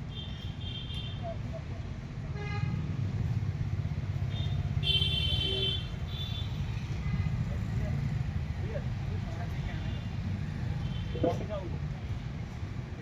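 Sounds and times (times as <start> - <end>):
low engine rumble of traffic: 0.0 - 13.0.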